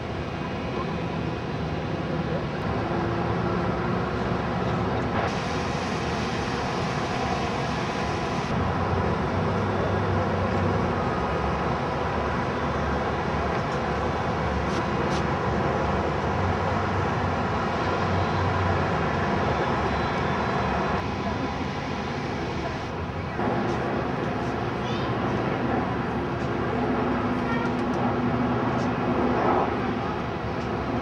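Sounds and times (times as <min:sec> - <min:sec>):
continuous rumble and hiss: 0:00.0 - 0:31.0.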